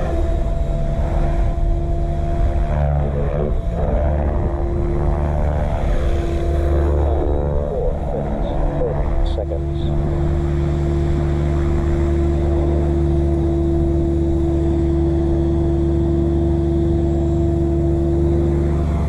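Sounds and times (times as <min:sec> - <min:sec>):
model helicopter hovering hum: 0:00.0 - 0:19.0.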